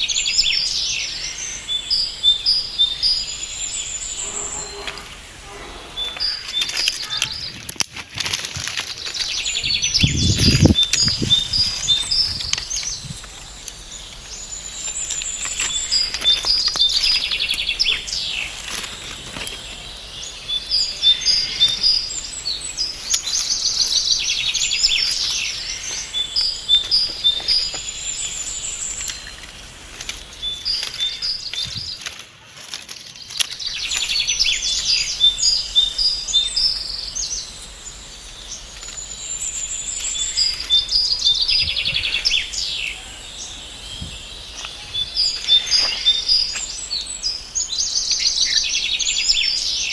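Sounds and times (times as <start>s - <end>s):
birds chirping and trilling: 0.0s - 49.9s.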